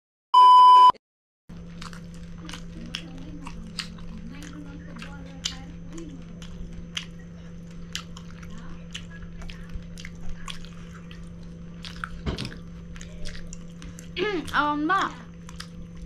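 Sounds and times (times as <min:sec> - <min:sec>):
steady low hum: 0:01.5 - 0:16.0
wet chewing and lip smacks: 0:01.6 - 0:16.0.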